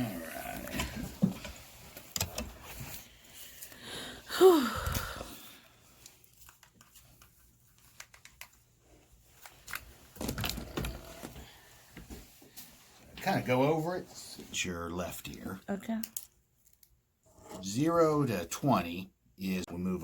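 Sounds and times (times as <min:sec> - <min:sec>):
rustling and handling noise: 0:00.6 - 0:03.8, 0:04.8 - 0:17.6.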